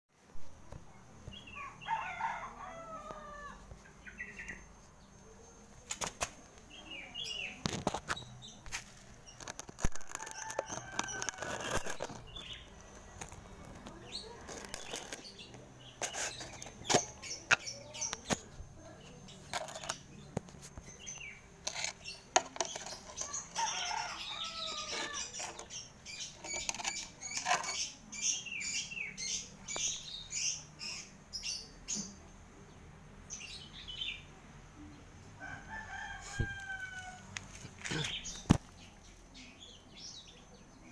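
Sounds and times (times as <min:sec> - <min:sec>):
small birds chirping: 0:00.4 - 0:40.9.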